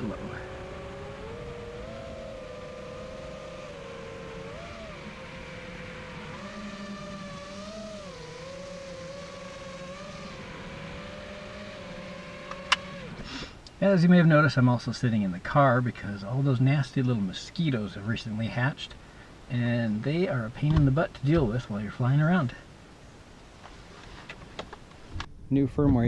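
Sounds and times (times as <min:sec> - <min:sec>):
drone motors whining: 0:00.0 - 0:22.6.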